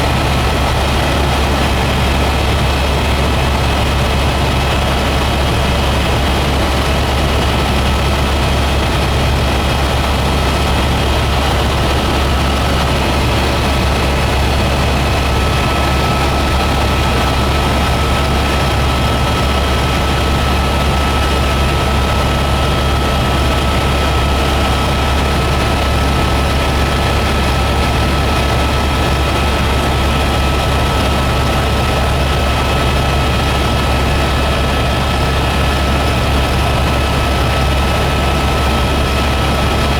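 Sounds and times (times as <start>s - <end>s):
helicopter rotor drone: 0.0s - 39.9s
turbine whine: 0.0s - 39.9s.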